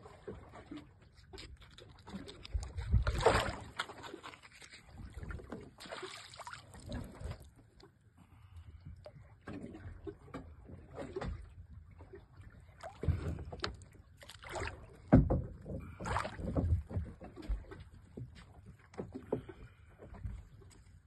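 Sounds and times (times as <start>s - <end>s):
water splashing against boat: 0.0s - 21.0s.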